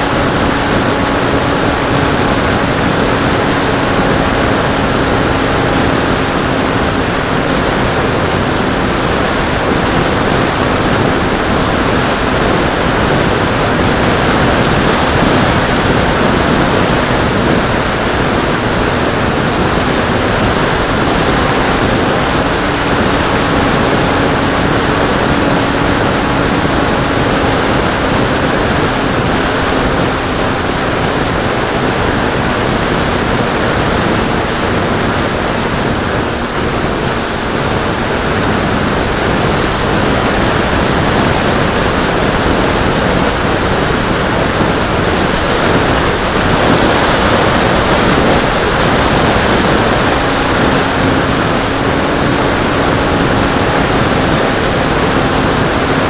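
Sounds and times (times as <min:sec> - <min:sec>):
electric motor and propeller hum: 0:00.0 - 0:56.0
wind rushing over microphone: 0:00.0 - 0:56.0.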